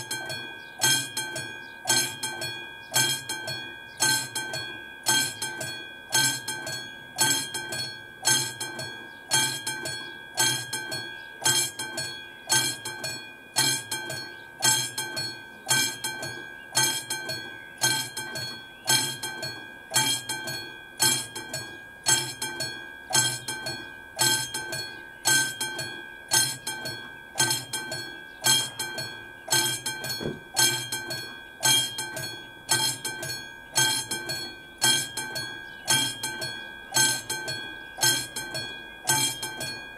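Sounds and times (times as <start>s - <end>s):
level crossing warning bell ringing: 0.0s - 39.9s.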